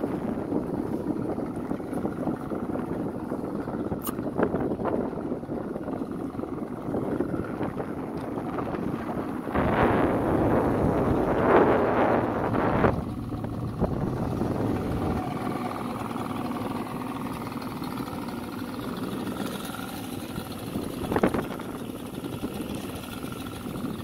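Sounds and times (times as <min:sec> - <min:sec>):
boat motor running: 0:00.0 - 0:24.0
wind buffeting microphone: 0:00.0 - 0:24.0.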